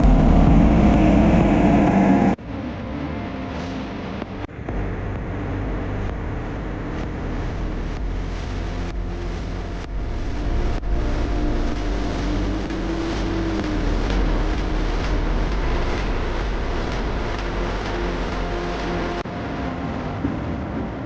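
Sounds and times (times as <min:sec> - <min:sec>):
engines rumbling: 0:00.0 - 0:21.0.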